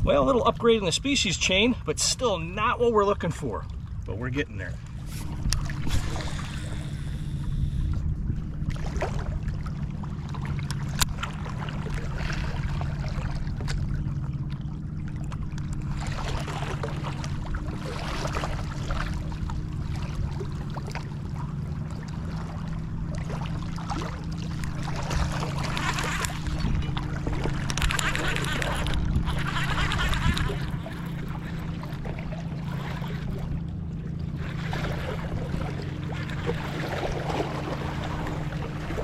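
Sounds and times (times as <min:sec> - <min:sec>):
boat motor humming: 0:00.0 - 0:39.0
water: 0:00.0 - 0:39.0
wind: 0:00.0 - 0:39.0.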